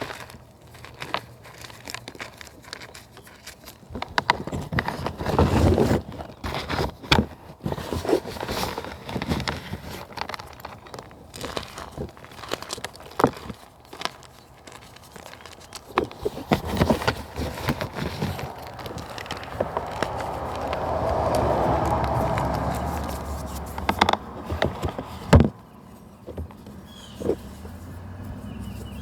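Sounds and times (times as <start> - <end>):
natural material crackling and snapping: 0.0 - 29.0.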